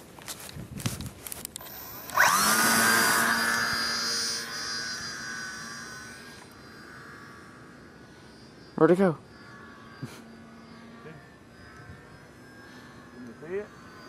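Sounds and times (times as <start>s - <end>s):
model airplane motor whine: 0.8s - 14.0s.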